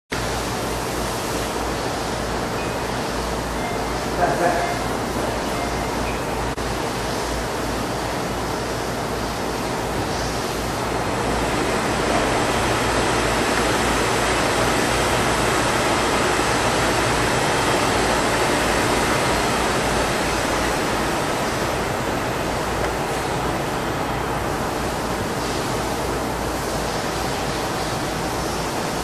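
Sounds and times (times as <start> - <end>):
steady rushing noise: 3.0 - 29.0.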